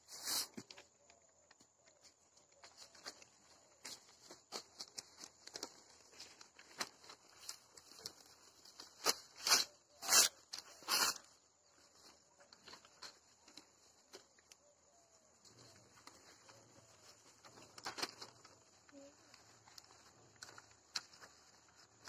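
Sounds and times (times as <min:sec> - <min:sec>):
newspaper crumpling: 0:02.6 - 0:14.3, 0:15.5 - 0:22.0.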